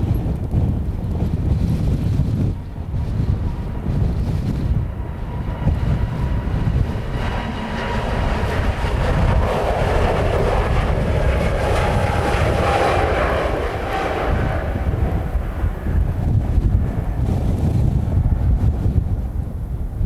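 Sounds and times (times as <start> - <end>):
faint jet whine: 0.0 - 20.0
jet engines roaring: 0.0 - 20.0
wind rumble on microphone: 0.0 - 20.0.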